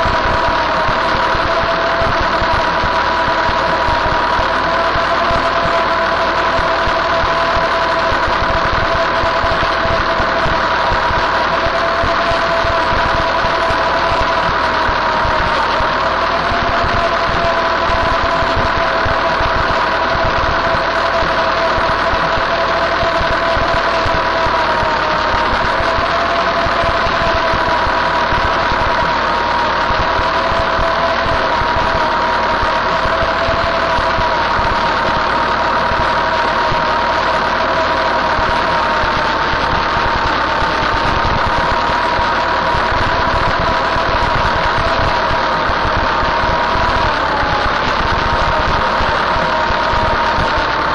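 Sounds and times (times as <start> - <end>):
high whine: 0.0 - 50.9
tractor engine drone: 0.0 - 50.9.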